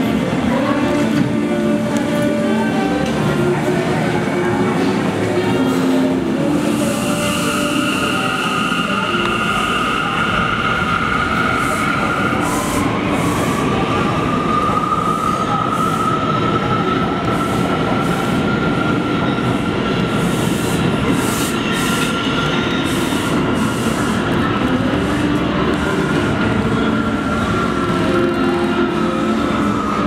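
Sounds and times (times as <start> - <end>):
subway train rumble: 0.0 - 30.0.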